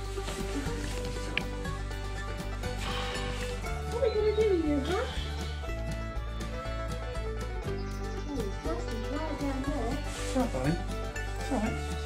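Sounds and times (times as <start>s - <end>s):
background music with bass: 0.0s - 12.0s.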